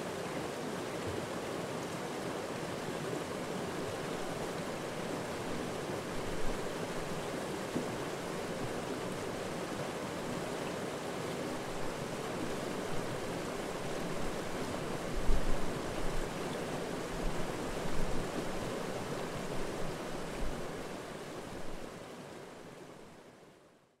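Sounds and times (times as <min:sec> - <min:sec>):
stream rushing over rocks: 0:00.0 - 0:23.5.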